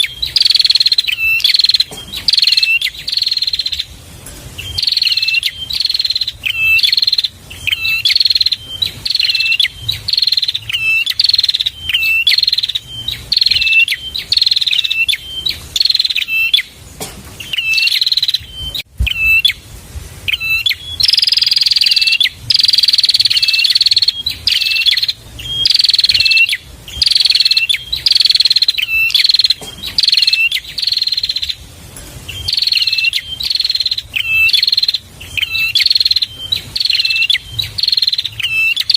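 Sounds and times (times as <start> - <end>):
bird singing loudly: 0.0 - 4.0, 4.6 - 16.8, 17.4 - 19.6, 20.3 - 31.6, 32.3 - 38.9.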